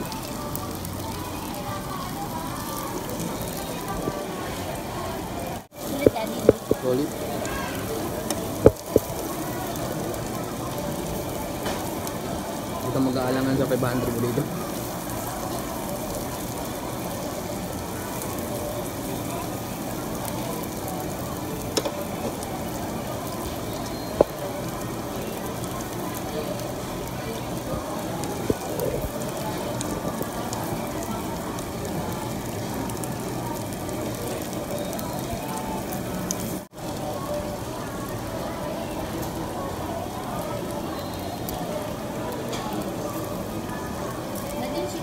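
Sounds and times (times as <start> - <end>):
beef sizzling on a grill: 0.0 - 45.0.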